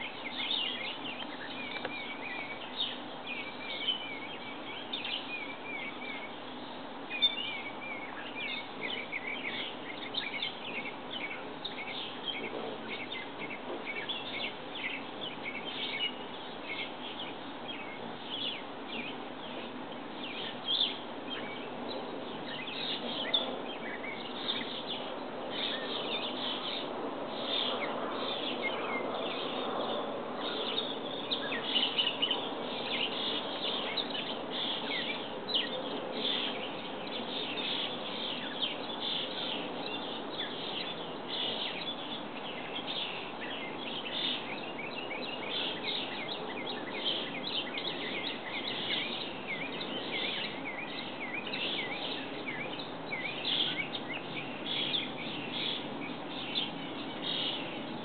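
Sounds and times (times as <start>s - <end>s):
low background noise: 0.0s - 58.0s
small birds chirping: 0.0s - 58.0s.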